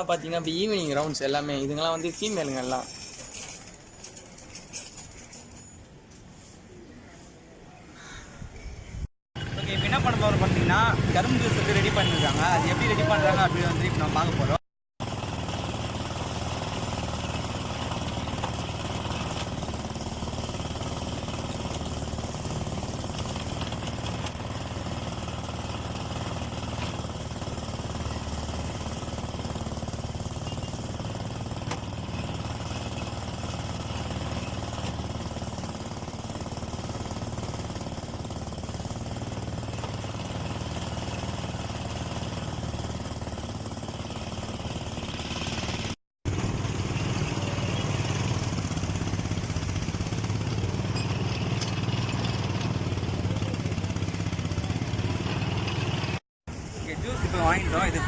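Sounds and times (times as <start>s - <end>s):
juice crusher motor droning: 9.4s - 37.9s, 38.5s - 58.0s.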